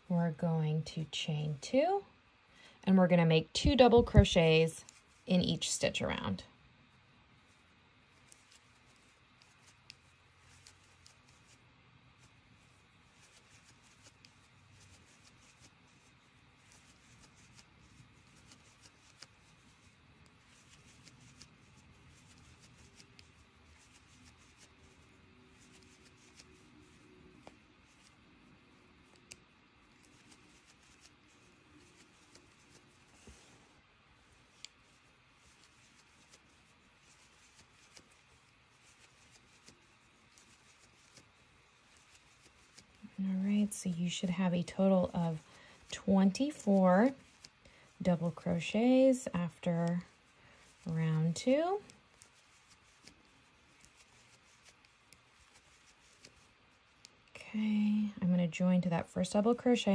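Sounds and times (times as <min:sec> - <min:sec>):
crochet hook pulling yarn: 0:03.6 - 0:05.8, 0:07.4 - 0:33.6, 0:34.2 - 0:57.4.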